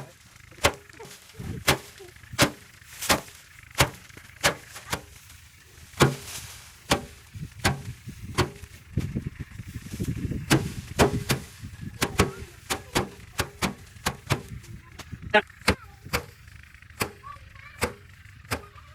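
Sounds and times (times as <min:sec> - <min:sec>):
rice bundles knocking on drum: 0:00.0 - 0:05.3, 0:05.9 - 0:08.8, 0:10.4 - 0:14.6, 0:15.6 - 0:18.9.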